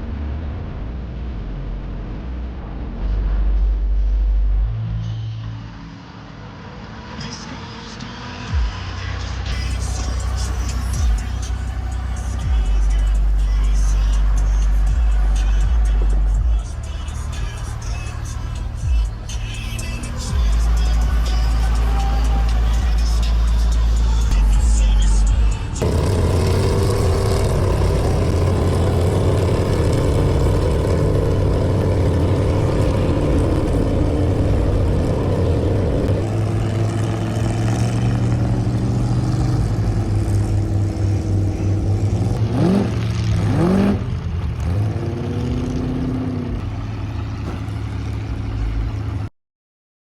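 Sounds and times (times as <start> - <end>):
truck engine revving: 7.0 - 49.3.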